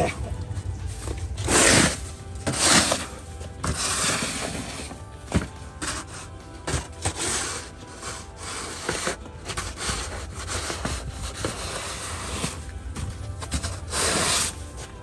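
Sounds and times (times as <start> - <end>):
wet snow being scraped: 0.0 - 5.1, 5.8 - 12.7, 13.4 - 15.0.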